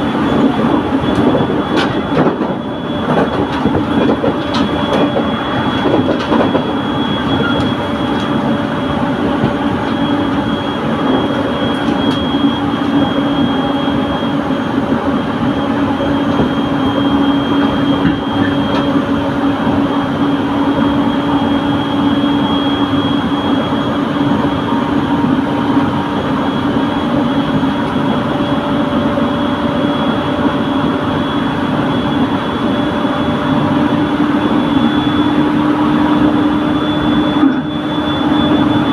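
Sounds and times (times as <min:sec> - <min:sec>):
faint high whine: 0:00.0 - 0:38.9
passenger train running: 0:00.0 - 0:38.9.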